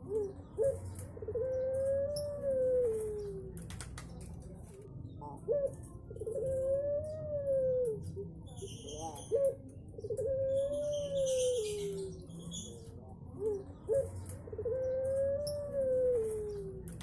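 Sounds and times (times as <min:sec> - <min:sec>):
dove cooing: 0:00.0 - 0:03.6, 0:04.8 - 0:17.0
small birds chirping: 0:00.0 - 0:17.0.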